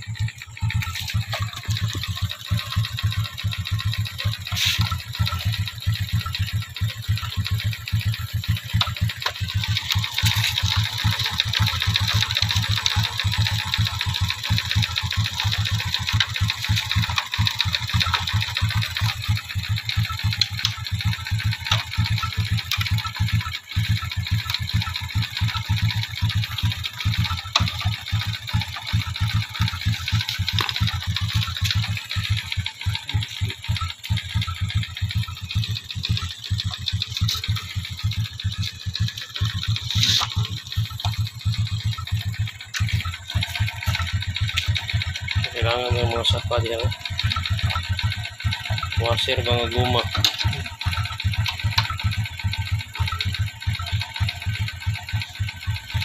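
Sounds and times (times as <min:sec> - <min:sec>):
small engine idling: 0:00.0 - 0:56.0.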